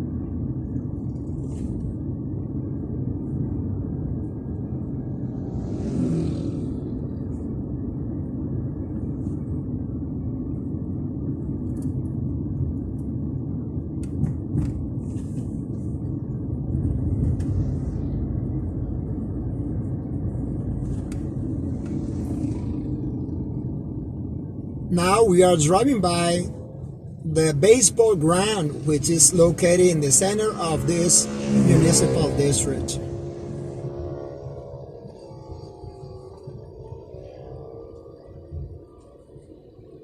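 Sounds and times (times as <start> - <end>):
car driving rumble: 0.0 - 40.0.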